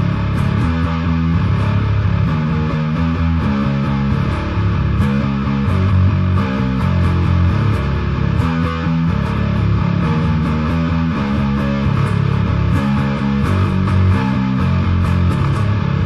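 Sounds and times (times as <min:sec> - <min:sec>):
bass guitar riff: 0:00.0 - 0:16.0.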